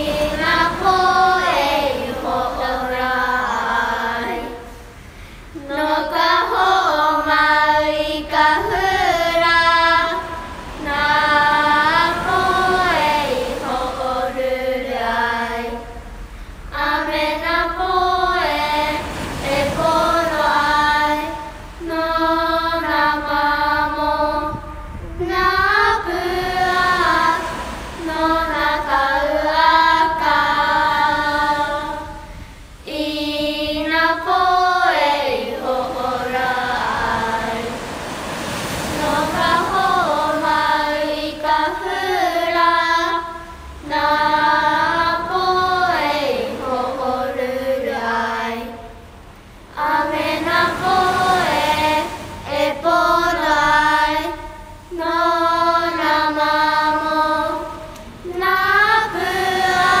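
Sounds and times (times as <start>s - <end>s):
voices singing: 0.0s - 60.0s.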